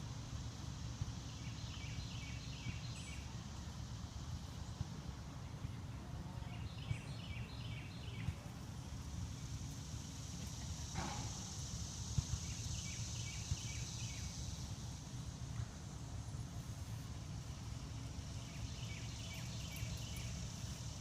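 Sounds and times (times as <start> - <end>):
songbird singing: 0.5 - 21.0.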